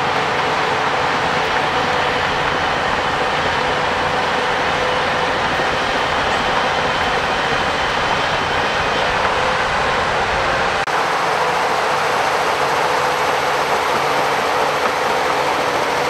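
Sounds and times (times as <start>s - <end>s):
bulldozer diesel engine: 0.0s - 16.0s
steel tracks clattering: 0.0s - 16.0s.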